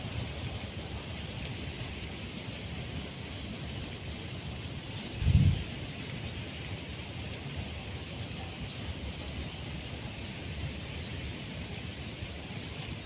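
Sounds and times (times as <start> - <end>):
steady outdoor hiss: 0.0 - 13.0
wind rumbling on microphone: 0.0 - 13.0.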